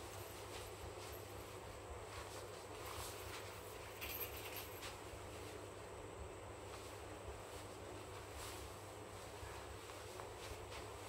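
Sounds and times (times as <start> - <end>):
stiff trousers rustling: 0.0 - 5.6, 6.6 - 11.0
faint hum and hiss: 0.0 - 11.0.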